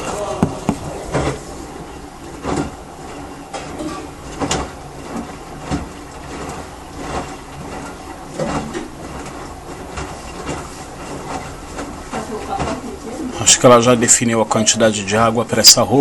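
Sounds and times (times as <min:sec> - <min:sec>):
washing machine churning: 0:00.0 - 0:16.0
washing machine sloshing: 0:00.0 - 0:16.0.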